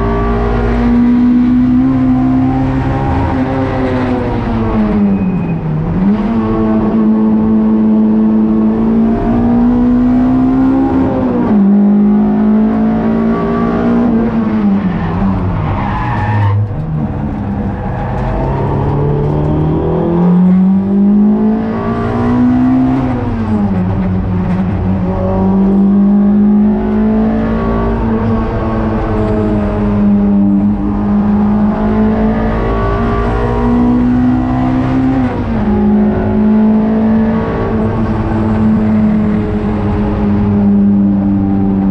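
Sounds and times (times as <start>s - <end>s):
race car engine revving: 5.8s - 41.9s.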